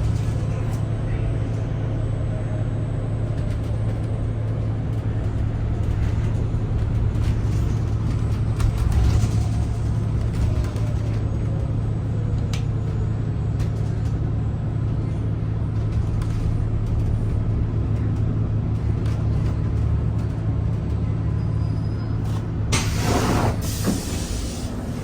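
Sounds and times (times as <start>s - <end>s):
bus drivetrain droning: 0.0s - 25.0s.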